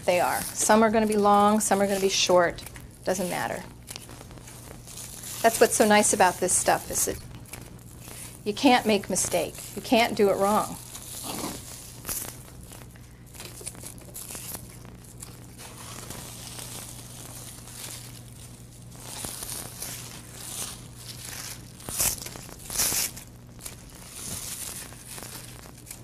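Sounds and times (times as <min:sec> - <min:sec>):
ribbon crinkling: 0:00.0 - 0:26.0.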